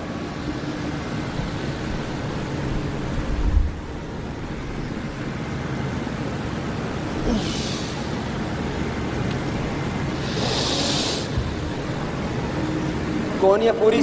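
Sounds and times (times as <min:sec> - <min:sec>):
steady rumbling noise: 0:00.0 - 0:14.0.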